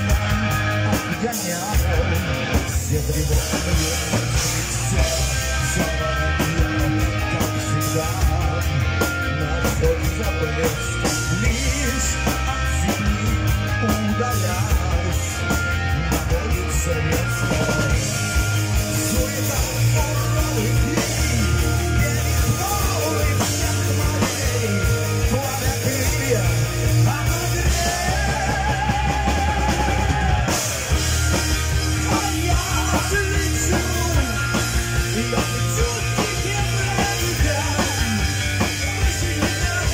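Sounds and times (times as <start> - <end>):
man singing into a microphone: 0.0 - 30.7, 31.8 - 39.9
bass guitar: 0.0 - 39.9
distorted electric guitars: 0.0 - 39.9
pounding drum kit: 0.0 - 39.9.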